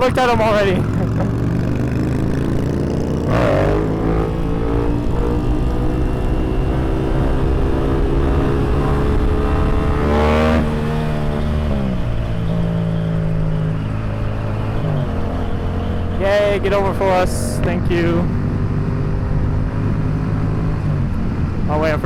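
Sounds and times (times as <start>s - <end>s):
motorcycle engine pulling: 0.0s - 21.2s.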